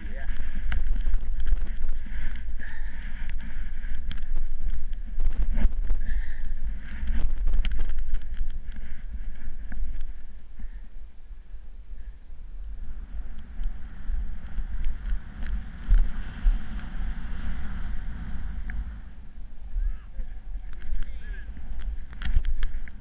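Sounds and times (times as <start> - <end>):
wind buffeting microphone: 0.0 - 11.8, 12.4 - 23.0.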